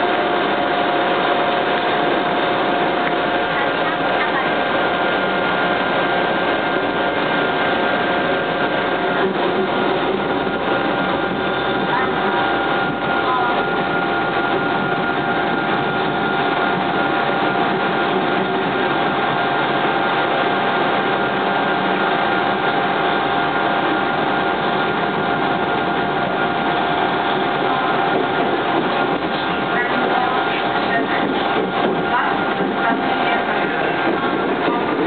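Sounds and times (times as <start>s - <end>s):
high whine: 0.0s - 35.0s
train rumbling: 0.0s - 35.0s.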